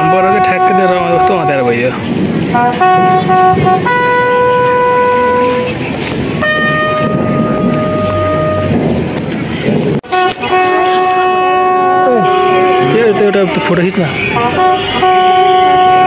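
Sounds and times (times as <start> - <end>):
brass horn playing slow funeral tune: 0.0 - 1.6, 2.5 - 8.8, 10.1 - 16.0
crowd murmur: 0.0 - 16.0.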